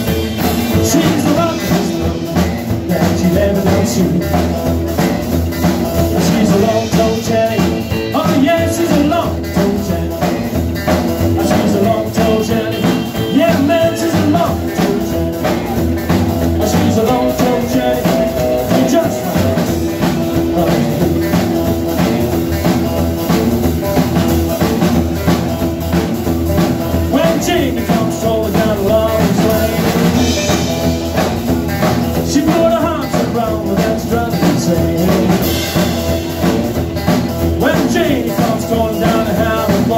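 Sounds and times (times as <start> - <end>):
man singing: 0.0 - 5.4, 6.0 - 23.4, 26.8 - 36.6, 37.5 - 39.9
acoustic guitar: 0.0 - 39.9
double bass: 0.0 - 39.9
drum kit beat: 0.0 - 39.9
electric guitar: 0.0 - 39.9.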